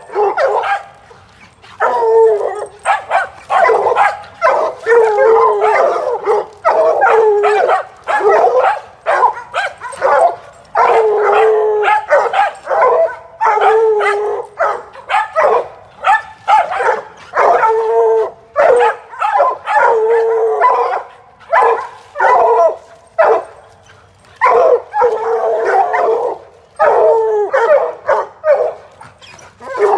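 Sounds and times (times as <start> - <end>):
hounds baying: 0.0 - 29.9.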